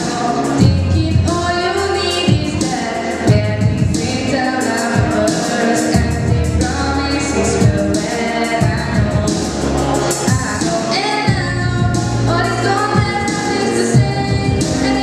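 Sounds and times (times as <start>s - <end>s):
backing track with bass and beat: 0.0s - 15.0s
girl singing into a microphone: 0.0s - 15.0s.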